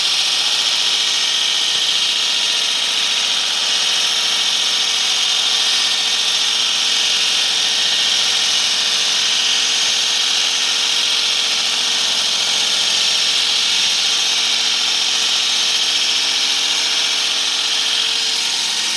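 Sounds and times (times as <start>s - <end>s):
concrete saw grinding: 0.0s - 18.9s
saw motor whine: 0.0s - 18.9s.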